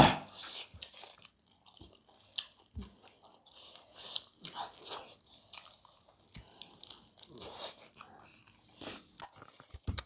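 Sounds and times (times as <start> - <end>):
crunchy chewing: 0.3 - 9.7.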